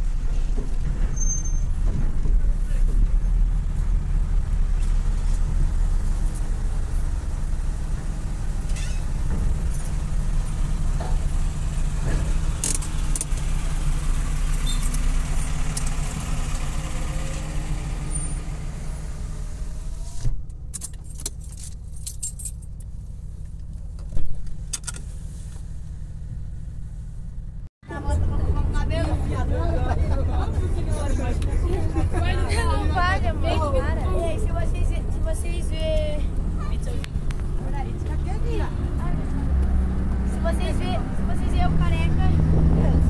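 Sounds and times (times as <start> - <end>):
car engine rumble and road noise: 0.0 - 43.0.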